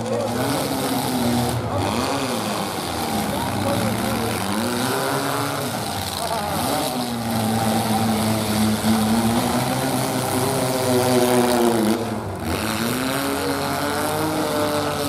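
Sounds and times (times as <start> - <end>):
truck engines revving hard: 0.0 - 15.0.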